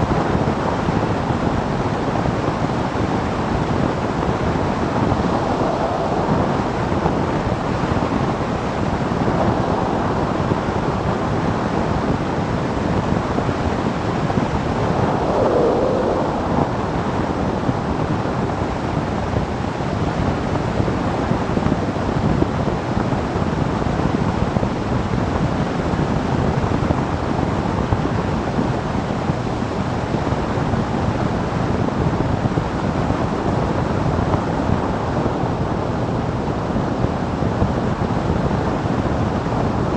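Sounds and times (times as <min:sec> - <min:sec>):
wind roar over microphone: 0:00.0 - 0:39.9.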